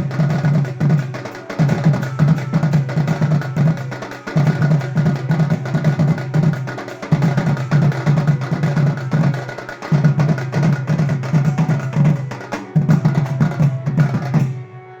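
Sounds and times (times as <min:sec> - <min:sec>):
fast dense drumming: 0:00.0 - 0:14.4.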